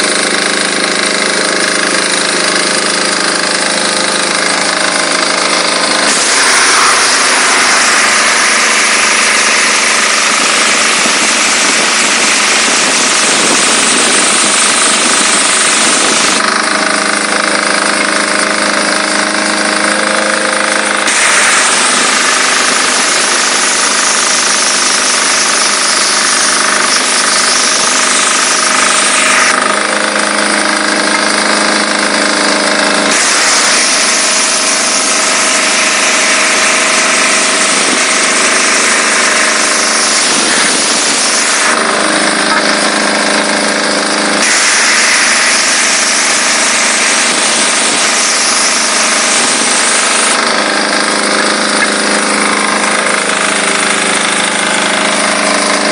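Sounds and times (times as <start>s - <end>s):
diesel engine droning: 0.0s - 55.9s
pressure washer spray hissing: 1.8s - 19.2s, 20.0s - 29.8s, 33.1s - 55.9s.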